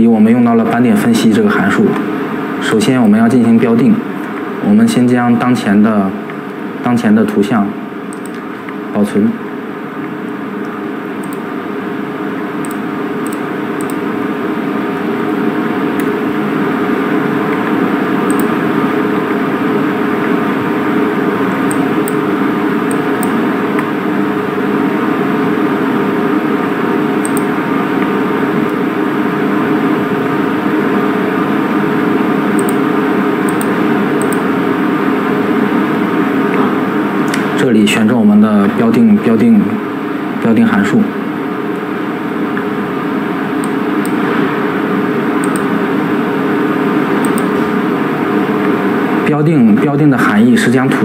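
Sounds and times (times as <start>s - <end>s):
mechanical hum with held tones: 0.0s - 51.0s.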